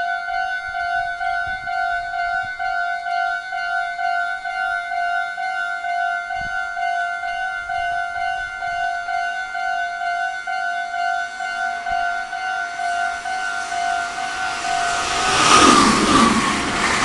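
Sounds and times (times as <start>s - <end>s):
level crossing warning bell: 0.0s - 15.7s
approaching train: 0.0s - 17.0s.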